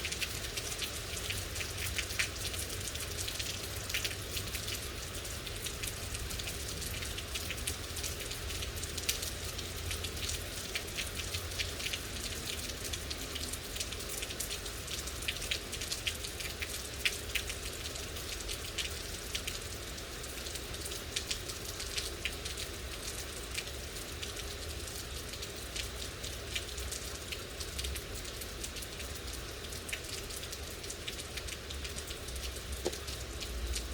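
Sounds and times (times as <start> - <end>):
rain falling: 0.0 - 33.9
raindrops ticking on a surface: 0.0 - 33.9.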